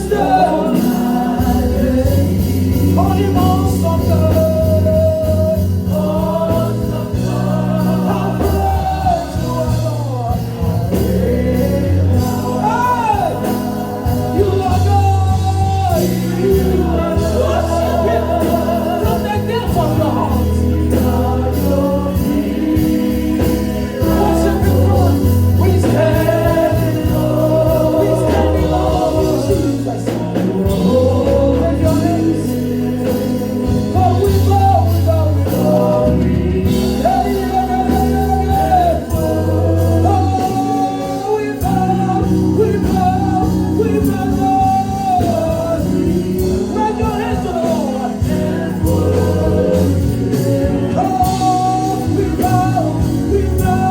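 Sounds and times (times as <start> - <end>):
band playing: 0.0 - 53.9
gospel singing: 0.0 - 53.9.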